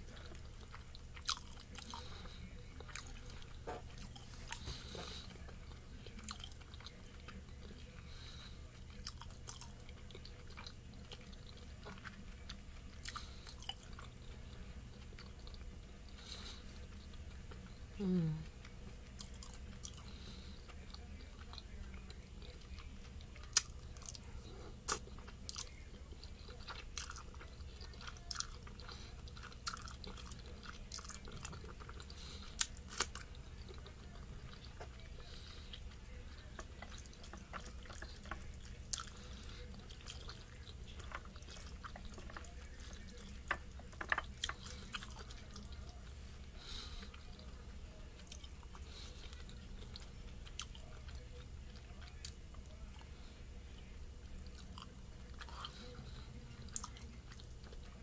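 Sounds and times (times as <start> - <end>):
person chewing noodles: 0.0 - 58.0.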